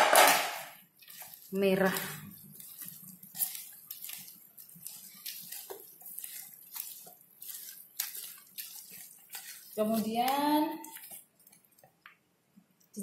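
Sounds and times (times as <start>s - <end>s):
hands mixing wet paste: 0.0s - 13.0s.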